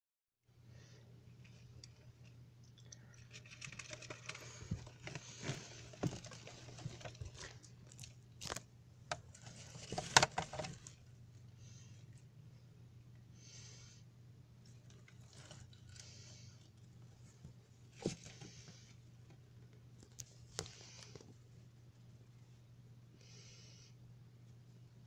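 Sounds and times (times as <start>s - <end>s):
low steady hum: 0.5s - 25.0s.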